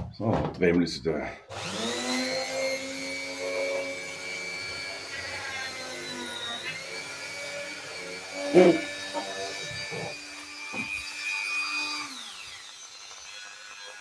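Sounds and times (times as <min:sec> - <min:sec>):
rotary tool motor whine: 0:01.5 - 0:14.0.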